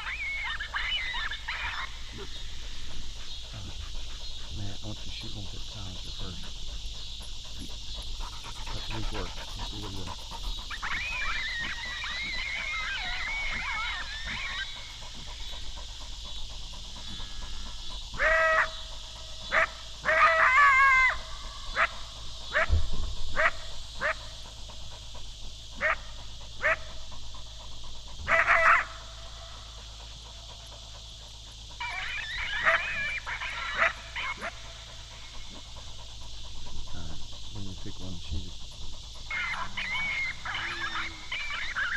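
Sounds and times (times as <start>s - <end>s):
dogs barking: 0.0s - 41.9s
dogs yip-howling: 0.0s - 41.9s.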